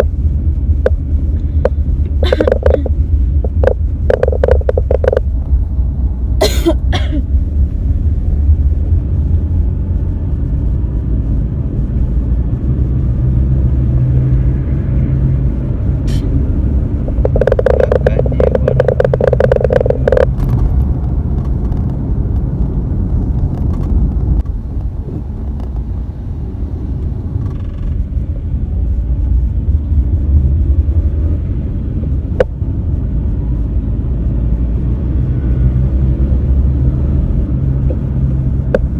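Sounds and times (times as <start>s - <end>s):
vehicle rumbling in motion: 0.0s - 38.9s.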